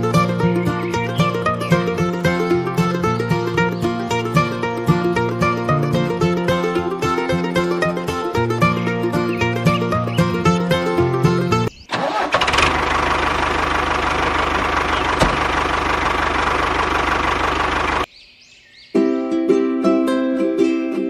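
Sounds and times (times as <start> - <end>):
plucked string music: 0.0 - 11.7, 12.6 - 18.1, 19.0 - 21.0
vehicle engine starting and running: 0.0 - 18.1.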